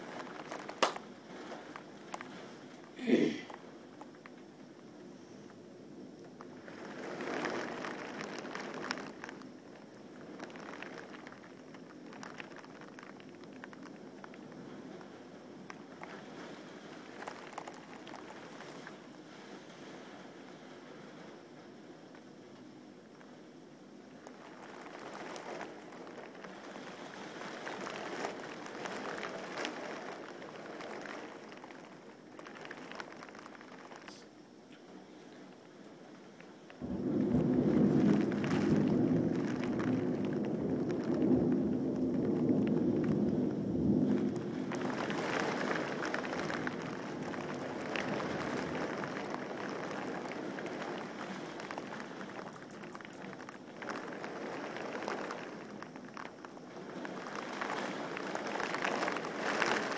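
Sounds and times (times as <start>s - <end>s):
raindrops ticking on window glass: 0.0s - 4.8s, 6.2s - 23.3s, 24.2s - 34.3s, 35.4s - 59.9s
rain falling: 0.0s - 59.9s.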